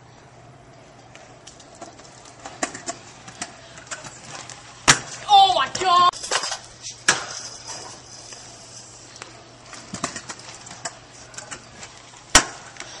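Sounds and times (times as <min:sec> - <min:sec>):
scooter wheels rumbling on concrete: 0:01.1 - 0:13.0.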